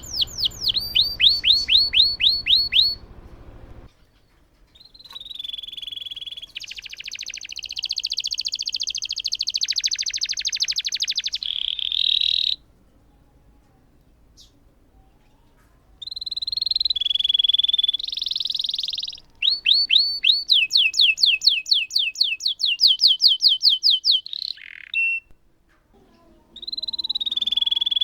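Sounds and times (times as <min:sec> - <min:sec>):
canary singing: 0:00.0 - 0:12.7, 0:16.0 - 0:25.4, 0:26.2 - 0:28.0.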